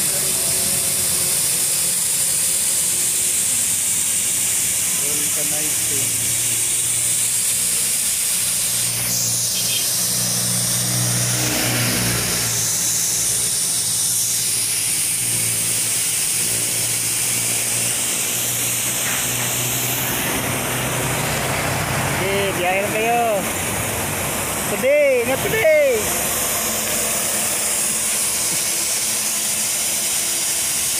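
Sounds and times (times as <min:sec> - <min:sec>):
engine idling: 0:00.0 - 0:30.9
road traffic: 0:00.0 - 0:30.9
steady hiss: 0:00.0 - 0:30.9.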